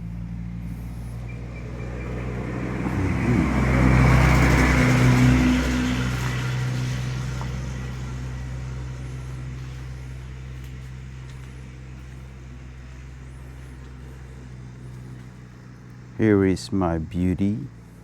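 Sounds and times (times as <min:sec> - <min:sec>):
two-stroke engine idling: 0:00.0 - 0:18.0.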